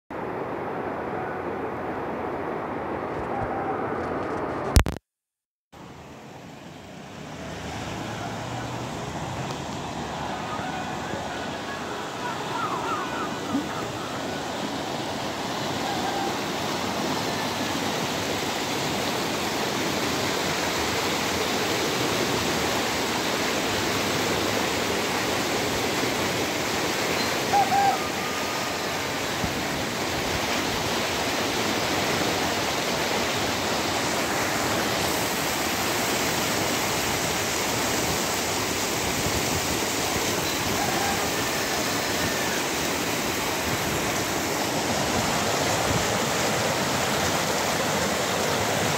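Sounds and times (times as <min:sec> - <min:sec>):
floodwater rushing: 0:05.8 - 0:48.9.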